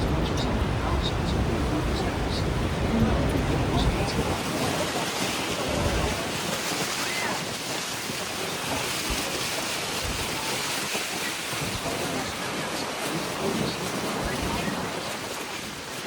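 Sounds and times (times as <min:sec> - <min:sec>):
waterfall roaring: 0:00.0 - 0:16.0
wind buffeting microphone: 0:00.0 - 0:16.0.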